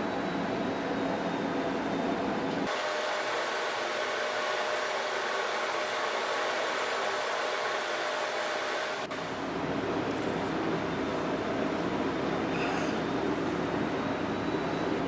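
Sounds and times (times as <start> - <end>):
whirring mechanical noise: 0.0 - 15.0.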